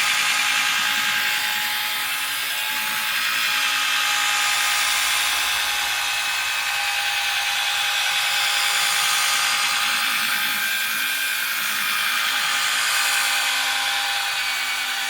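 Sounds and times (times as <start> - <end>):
power tool motor whine: 0.0 - 15.0.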